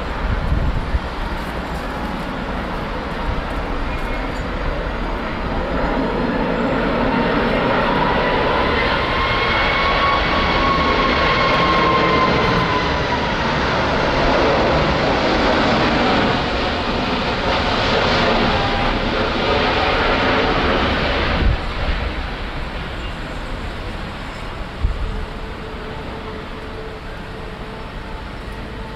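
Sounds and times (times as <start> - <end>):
high engine whine: 0.0 - 28.9
jet engines roaring: 0.0 - 28.9.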